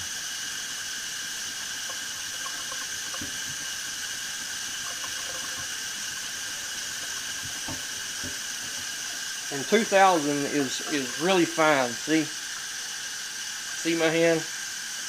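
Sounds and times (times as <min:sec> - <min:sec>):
faucet running into metal sink: 0:00.0 - 0:15.0.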